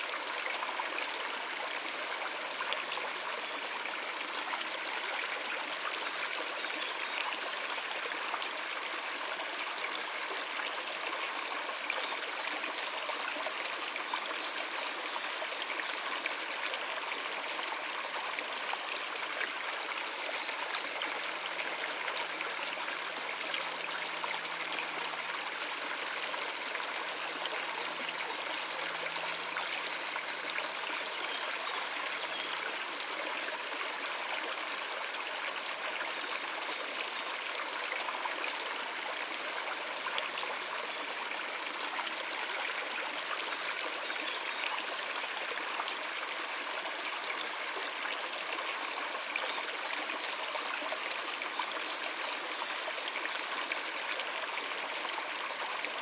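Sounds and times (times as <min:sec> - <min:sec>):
water running over rocks: 0:00.0 - 0:56.0.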